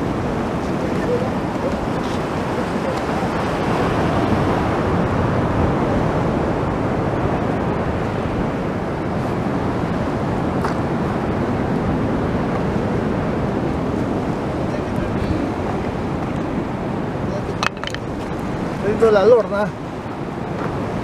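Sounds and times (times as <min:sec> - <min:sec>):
sea surf breaking: 0:00.0 - 0:21.0
wind buffeting microphone: 0:00.0 - 0:21.0.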